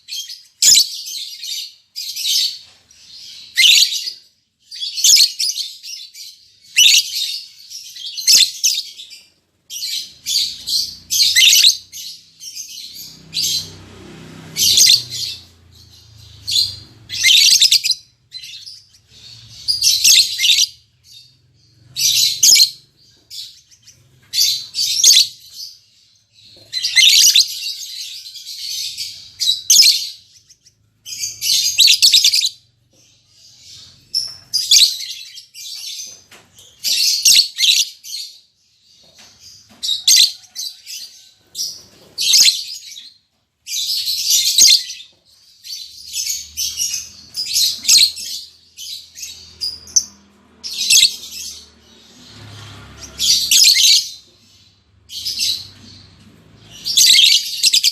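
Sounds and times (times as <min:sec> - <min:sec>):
lovebirds chirping: 0:00.0 - 0:57.9.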